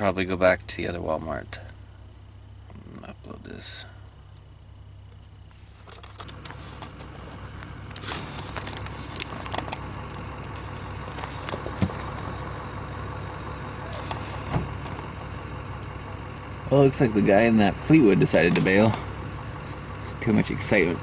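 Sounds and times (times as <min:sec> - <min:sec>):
outdoor noise: 0:00.0 - 0:21.0
vehicle engine idling: 0:00.0 - 0:21.0.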